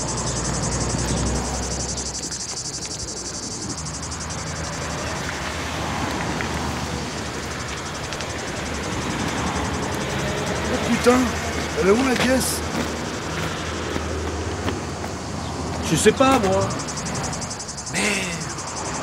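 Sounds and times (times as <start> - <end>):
high-pitched insect chorus: 0.0 - 19.0
soft outdoor noise: 0.0 - 19.0.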